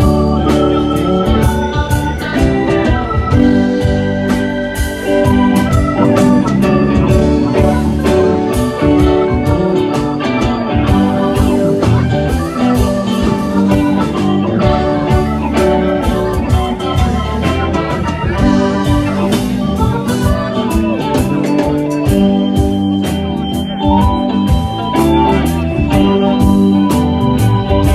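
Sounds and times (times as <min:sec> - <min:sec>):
electric guitar: 0:00.0 - 0:27.9
organ: 0:00.0 - 0:27.9
steady drum beat: 0:00.0 - 0:27.9.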